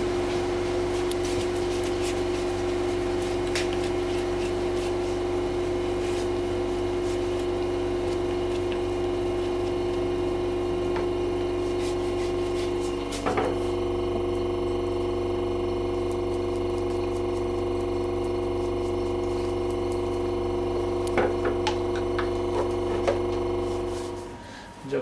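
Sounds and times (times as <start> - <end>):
electric motor hum: 0.0 - 25.0.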